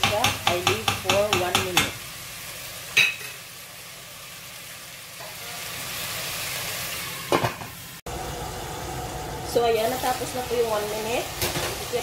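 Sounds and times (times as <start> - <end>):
chicken sizzling in a pot: 0.0 - 12.0.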